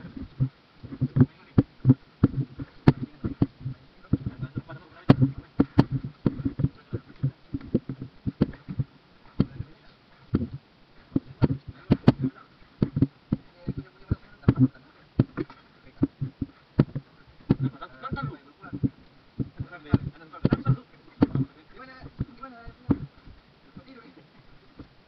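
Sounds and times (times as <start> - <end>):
knocks and thumps in a boat: 0.0 - 24.0, 24.7 - 25.0.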